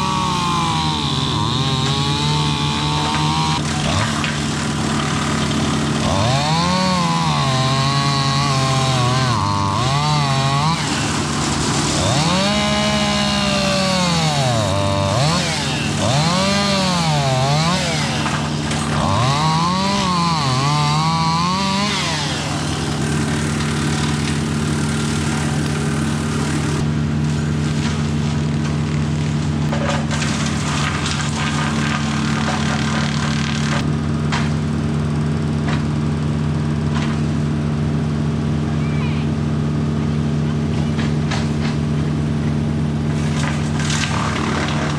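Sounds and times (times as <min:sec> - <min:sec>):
wood-cutting machine engine: 0:00.0 - 0:44.9.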